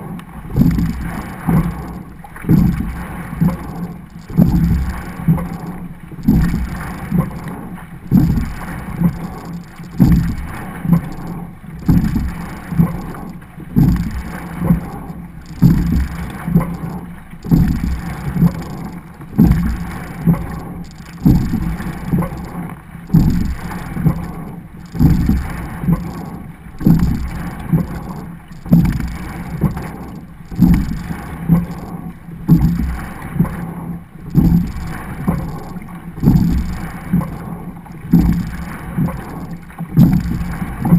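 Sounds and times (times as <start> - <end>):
water rushing along hull: 0.0 - 40.9
oar stroke knocks: 0.5 - 40.9.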